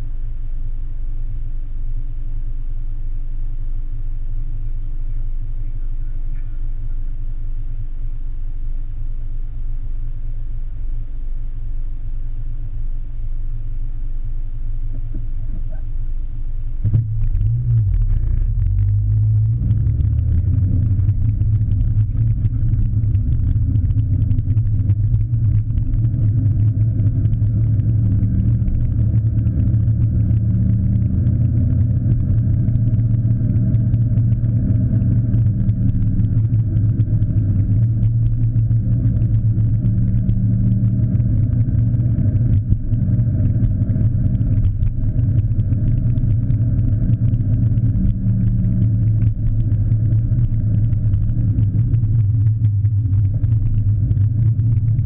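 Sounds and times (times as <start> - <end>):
muffled car engine and road noise: 0.0 - 55.0.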